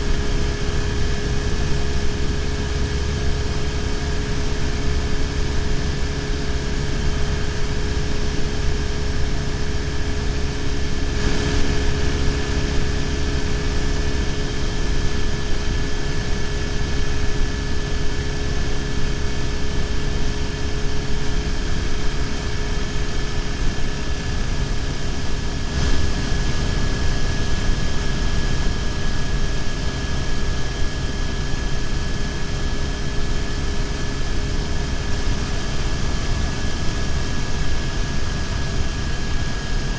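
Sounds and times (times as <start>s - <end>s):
steady whining tones: 0.0s - 39.9s.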